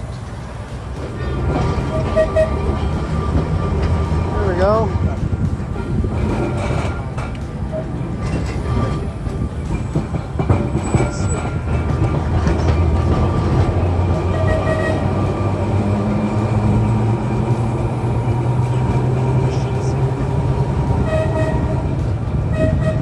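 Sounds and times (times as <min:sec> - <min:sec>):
tram motor humming: 0:00.0 - 0:23.0
wheel and track noise: 0:00.0 - 0:23.0.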